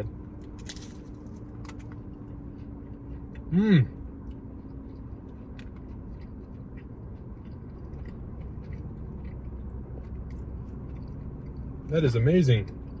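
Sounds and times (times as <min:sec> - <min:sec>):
air conditioner humming: 0:00.0 - 0:13.0
crunchy chewing: 0:00.4 - 0:13.0.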